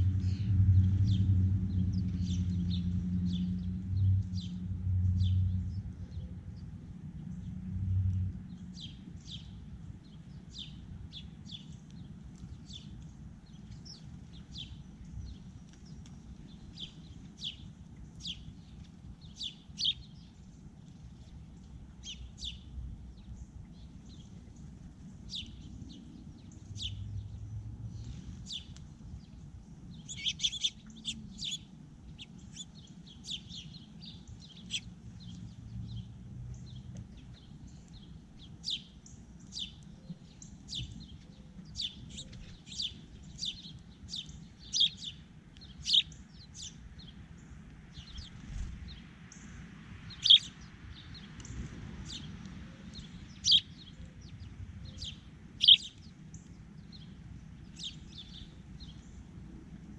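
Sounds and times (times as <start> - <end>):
low steady hum: 0.0 - 59.9
small songbirds chirping: 0.0 - 59.9.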